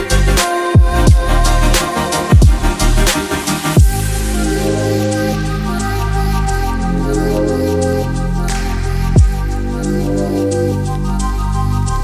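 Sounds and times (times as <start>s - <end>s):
held synth chords: 0.0s - 12.0s
steady low bass: 0.0s - 12.0s.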